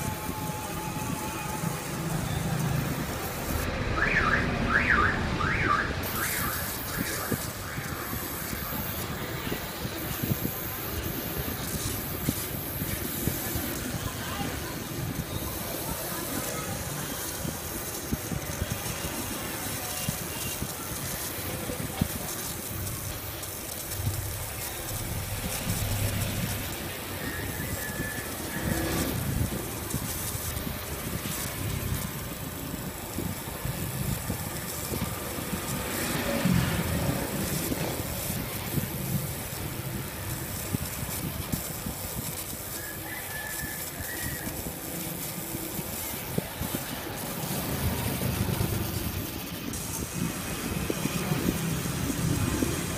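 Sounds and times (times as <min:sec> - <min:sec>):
laser engraver hissing: 0:00.0 - 0:04.7, 0:05.9 - 0:52.9.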